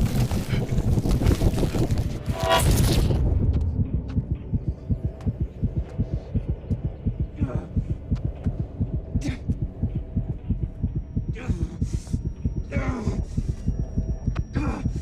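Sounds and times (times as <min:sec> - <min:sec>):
fast heartbeat thumping: 0:00.0 - 0:15.0
low hum: 0:00.0 - 0:15.0.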